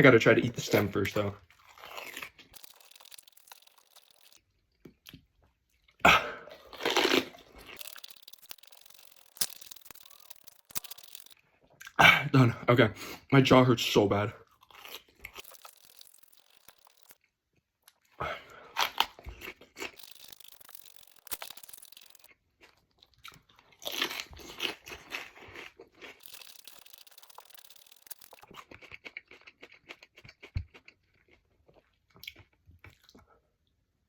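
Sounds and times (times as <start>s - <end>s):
chewing raw pepper crunching: 0.6s - 12.0s, 14.4s - 33.4s.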